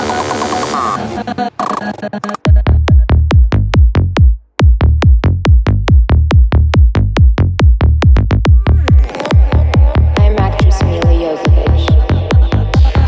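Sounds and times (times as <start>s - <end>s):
kick drum and bassline pulse: 0.0s - 13.0s.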